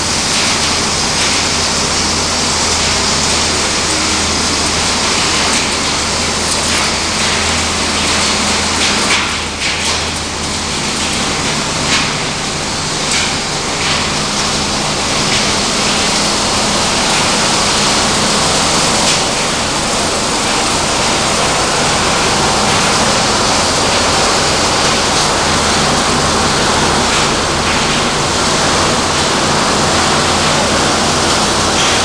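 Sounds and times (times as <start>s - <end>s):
loud machinery noise: 0.0s - 32.0s.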